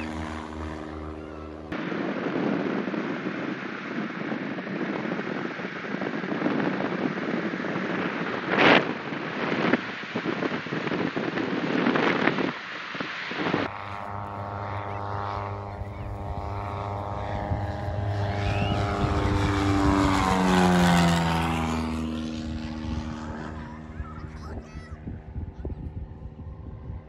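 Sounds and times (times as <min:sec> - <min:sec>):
propeller plane passing overhead: 0:00.0 - 0:27.0
wind rushing through window: 0:00.0 - 0:27.0.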